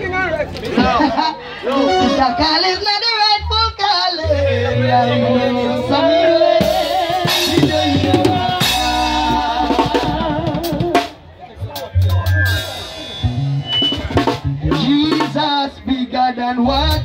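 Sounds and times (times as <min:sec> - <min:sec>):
band playing drums and bass: 0:00.0 - 0:17.0.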